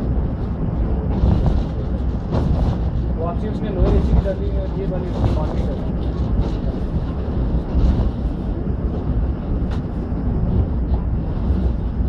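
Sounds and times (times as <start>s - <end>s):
train wheels on track: 0.0s - 12.0s.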